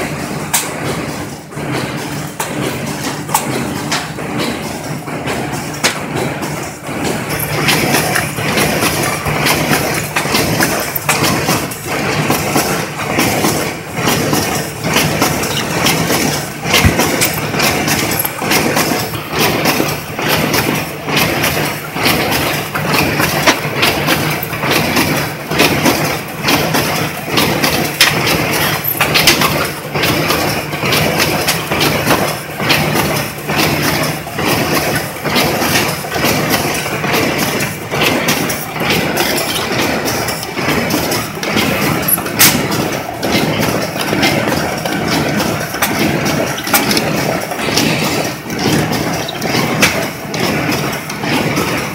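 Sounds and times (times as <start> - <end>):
motor hum: 0.0 - 51.9
rhythmic mechanical clatter: 0.0 - 51.9.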